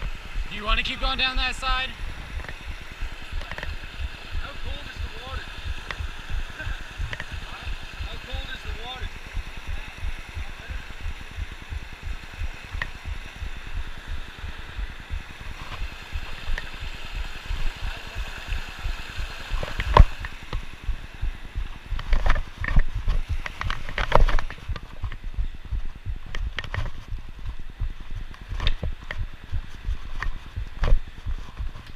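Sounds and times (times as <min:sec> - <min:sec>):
creek water rushing: 0:00.0 - 0:31.9.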